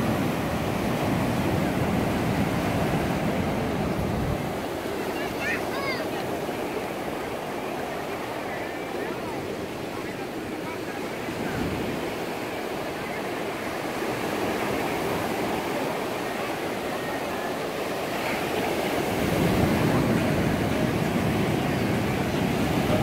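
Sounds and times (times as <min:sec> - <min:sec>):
surf waves breaking on beach: 0:00.0 - 0:23.0.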